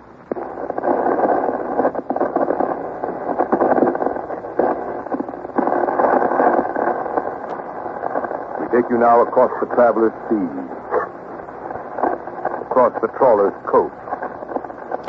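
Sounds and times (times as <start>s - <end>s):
crackling radio static: 0.0s - 15.0s.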